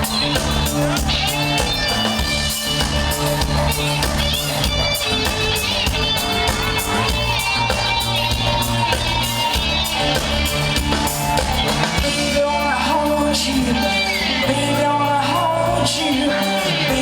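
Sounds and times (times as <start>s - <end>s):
bass: 0.0s - 17.0s
guitar: 0.0s - 17.0s.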